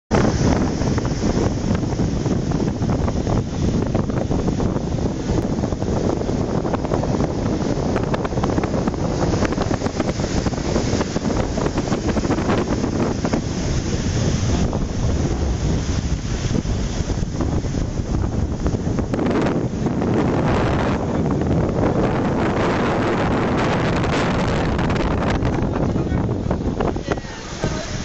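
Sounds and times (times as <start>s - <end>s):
sea waves breaking: 0.1s - 28.0s
wind buffeting microphone: 0.1s - 28.0s.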